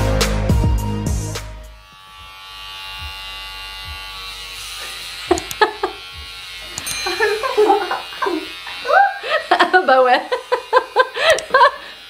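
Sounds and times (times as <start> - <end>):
electric hair clipper buzzing: 1.7 - 12.0.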